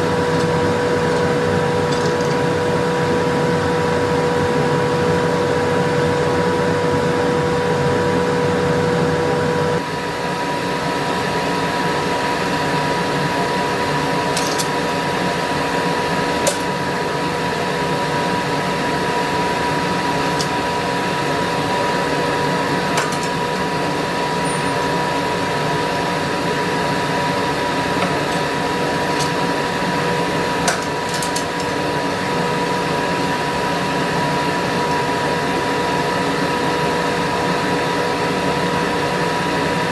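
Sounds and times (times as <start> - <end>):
forge blower rushing: 0.0 - 39.9.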